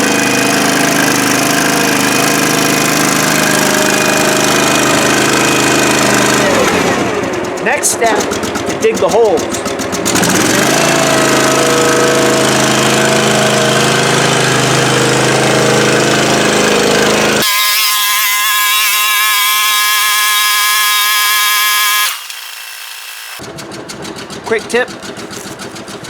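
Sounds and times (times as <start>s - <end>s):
motor digging tool whining: 0.0s - 26.0s.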